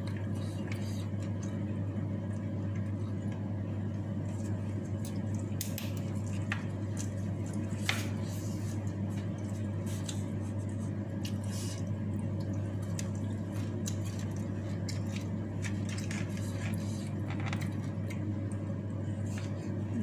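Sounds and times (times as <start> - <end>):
steady low hum: 0.0 - 20.0
wet squishy chewing: 0.0 - 20.0.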